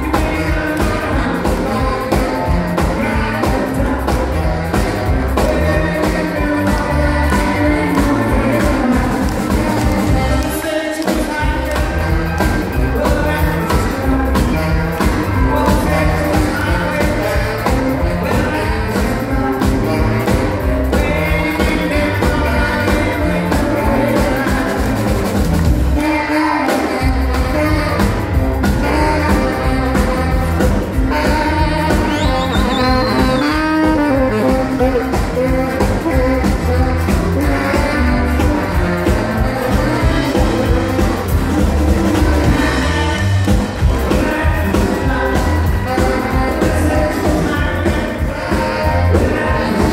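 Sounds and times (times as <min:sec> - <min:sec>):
man singing into microphone: 0:00.0 - 0:25.2, 0:25.8 - 0:41.4, 0:42.1 - 0:49.9
drums: 0:00.0 - 0:49.9
electric bass: 0:00.0 - 0:49.9
saxophone: 0:00.0 - 0:49.9.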